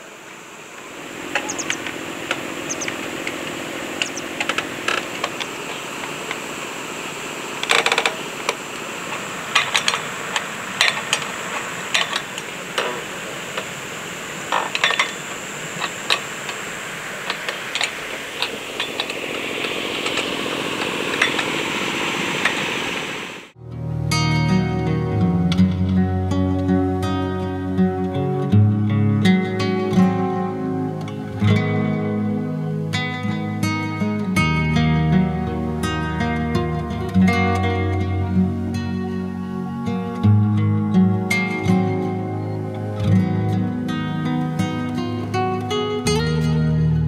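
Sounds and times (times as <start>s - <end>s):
high insect drone: 0.0s - 25.6s, 26.2s - 47.0s.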